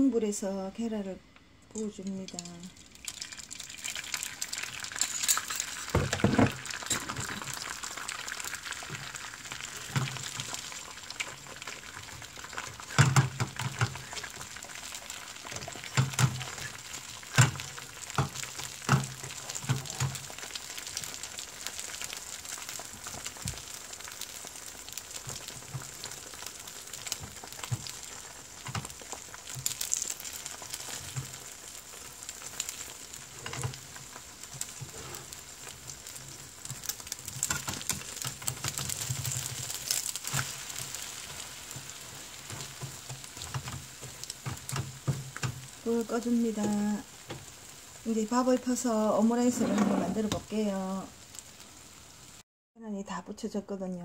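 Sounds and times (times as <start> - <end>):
egg sizzling in hot oil: 1.7 - 52.4.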